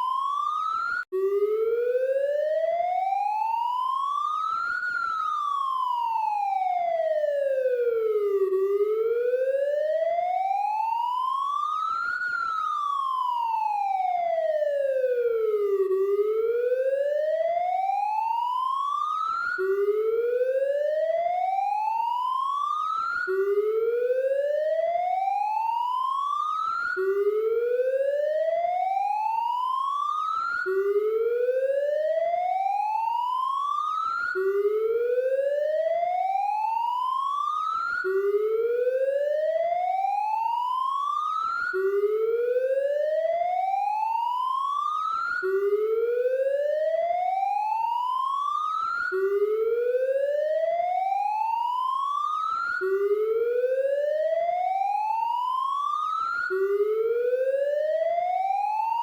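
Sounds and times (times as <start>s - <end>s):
police siren wailing: 0.0s - 59.0s.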